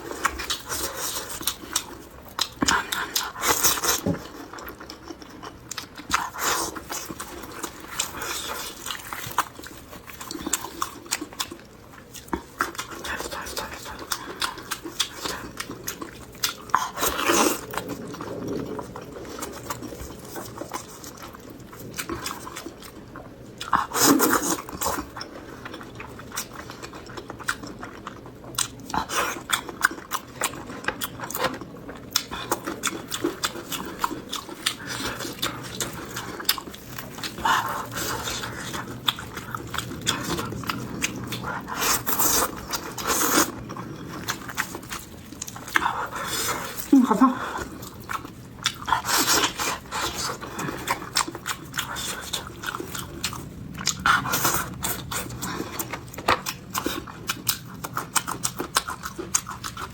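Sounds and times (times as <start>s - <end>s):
person chewing and biting food: 0.0s - 59.9s.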